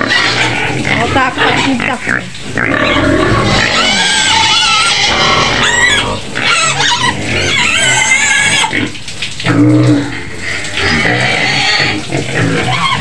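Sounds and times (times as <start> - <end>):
piglets squealing: 0.0 - 8.9, 10.8 - 13.0.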